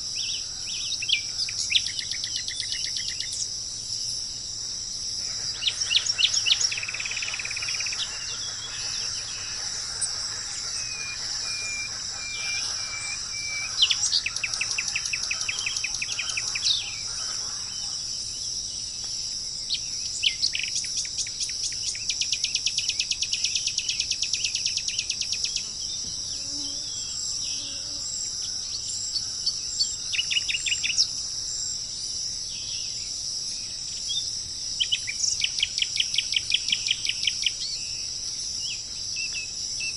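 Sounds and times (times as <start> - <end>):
high-pitched insect-like hiss: 0.0 - 39.9
small birds singing: 0.0 - 39.9.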